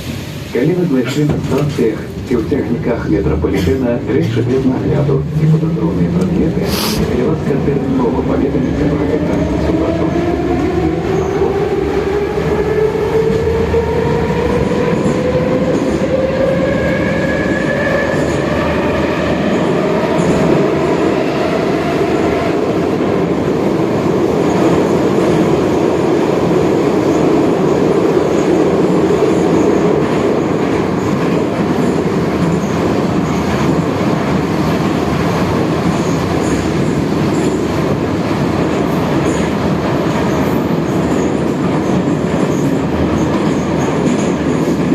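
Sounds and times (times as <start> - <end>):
train wheels on rails: 8.6 - 44.9.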